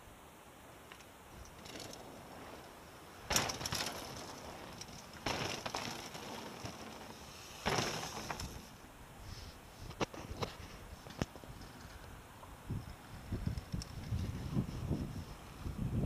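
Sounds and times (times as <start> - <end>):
bike tyres on dirt trail: 0.7 - 16.0.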